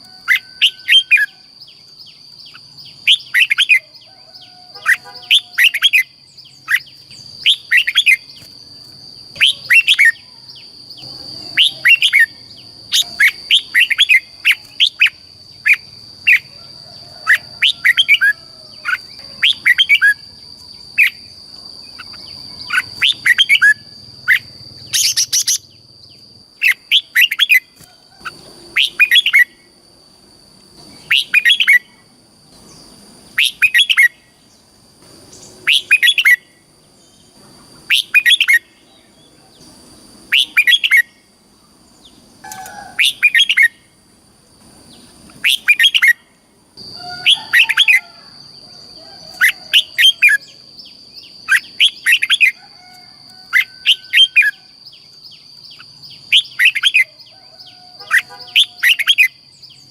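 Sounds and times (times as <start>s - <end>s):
bird singing warbled phrases: 0.2s - 16.5s, 17.2s - 29.7s, 30.8s - 34.7s, 35.3s - 43.8s, 44.9s - 48.2s, 49.2s - 52.6s, 53.5s - 59.9s.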